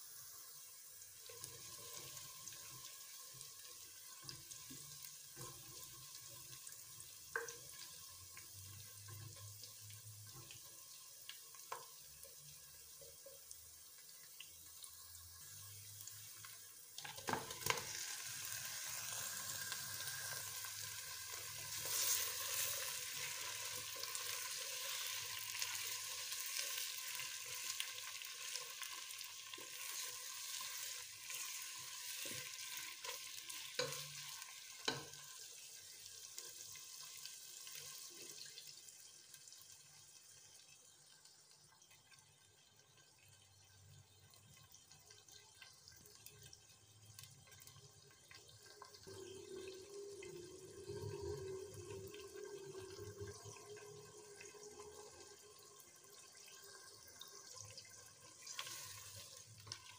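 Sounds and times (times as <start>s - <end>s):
onions frying in hot oil: 0.0s - 59.9s.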